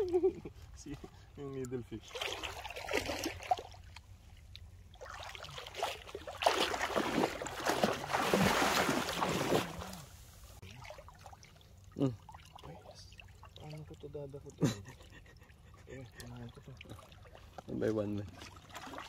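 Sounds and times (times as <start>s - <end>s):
seawater splashing: 1.9s - 15.2s, 15.8s - 19.0s.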